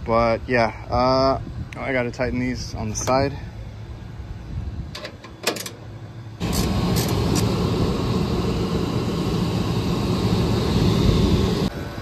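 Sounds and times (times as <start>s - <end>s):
hvac fan and motor hum: 0.0s - 12.0s.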